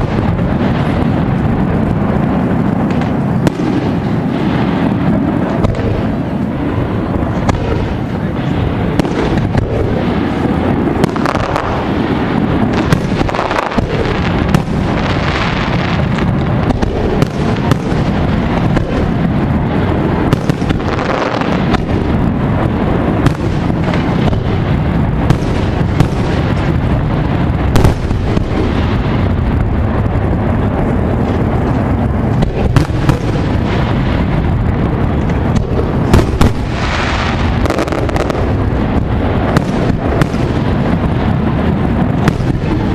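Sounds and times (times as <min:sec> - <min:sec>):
continuous low rumble: 0:00.0 - 0:42.9
fireworks bursting with sharp bangs: 0:00.0 - 0:42.9.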